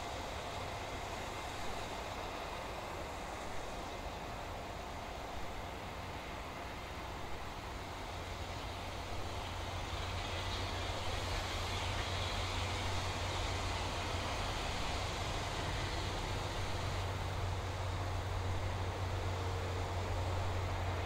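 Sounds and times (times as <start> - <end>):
distant jet engine rumble: 0.0 - 21.0.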